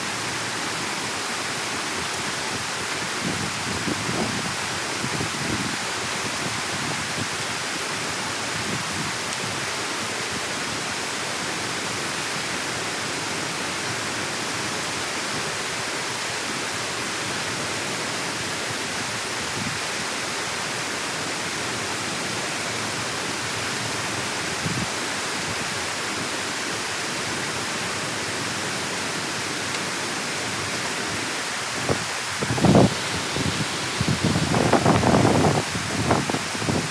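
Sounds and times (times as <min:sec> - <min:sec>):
water rushing through channel: 0:00.0 - 0:36.9.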